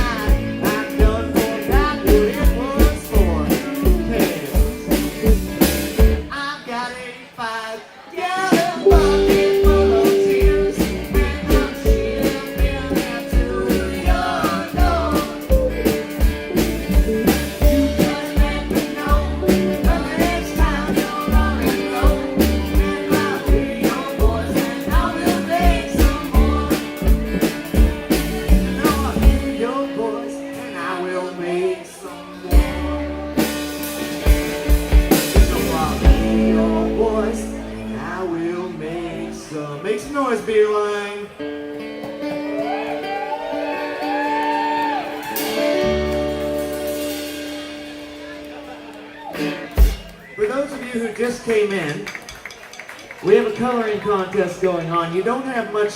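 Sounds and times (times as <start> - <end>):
bass guitar: 0.0 - 6.4, 8.8 - 40.4, 41.3 - 50.4
electric guitar: 0.0 - 6.4, 8.8 - 39.8, 41.2 - 50.4
drums: 0.0 - 6.6, 8.4 - 31.0, 32.1 - 39.3, 41.8 - 54.8.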